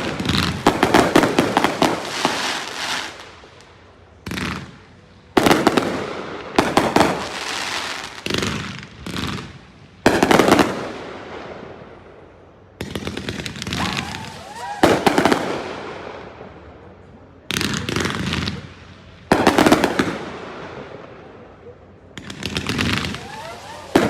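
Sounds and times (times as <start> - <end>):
fireworks bursts with crackle: 0.0 - 16.7, 17.3 - 24.0.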